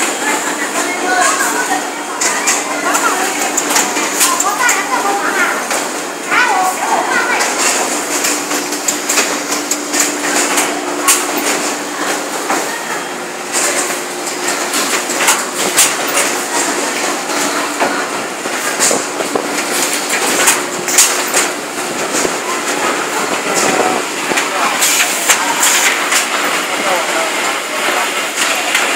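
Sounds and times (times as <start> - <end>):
machine clacks and knocks: 0.0 - 12.8, 13.4 - 28.9
machinery hum: 0.0 - 28.9.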